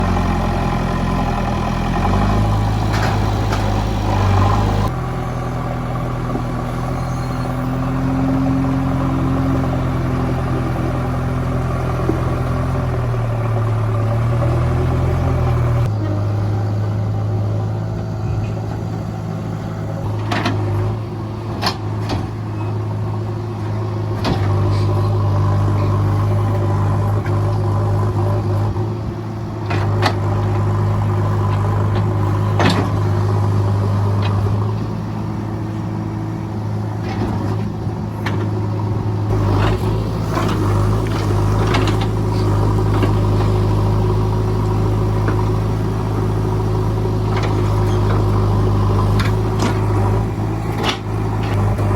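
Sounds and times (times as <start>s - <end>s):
diesel engine working: 0.0s - 51.9s.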